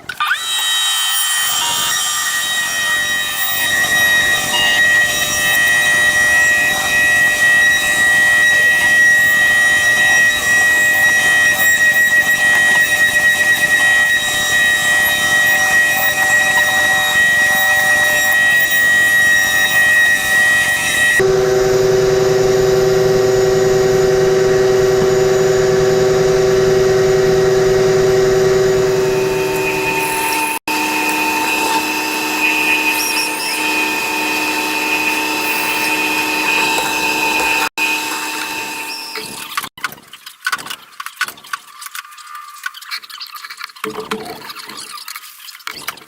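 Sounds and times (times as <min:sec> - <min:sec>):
higher power tool whine: 0:00.1 - 0:39.7
power tool motor whine: 0:00.1 - 0:39.8.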